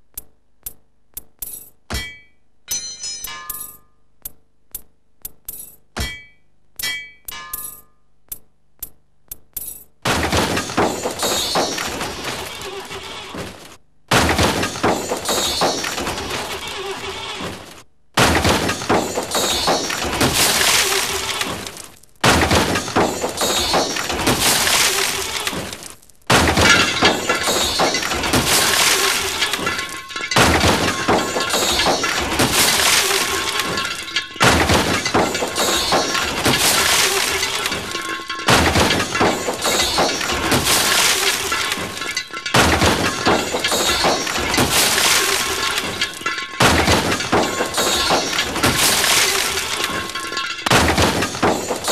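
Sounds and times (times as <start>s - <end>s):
glass breaking and crunching: 1.9s - 4.0s, 9.6s - 51.9s.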